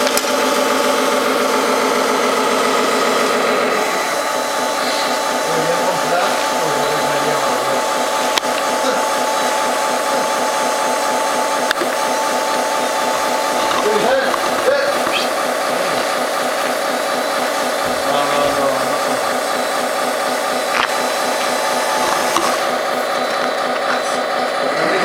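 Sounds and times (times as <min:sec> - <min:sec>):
electric motor whine: 0:00.0 - 0:25.0.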